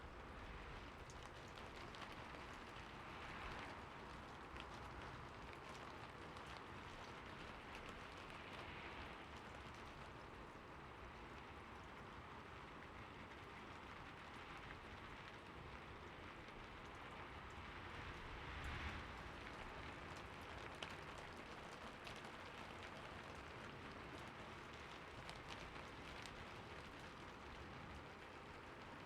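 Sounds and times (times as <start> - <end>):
light rain hiss: 0.0 - 29.0
raindrops ticking: 0.1 - 29.0.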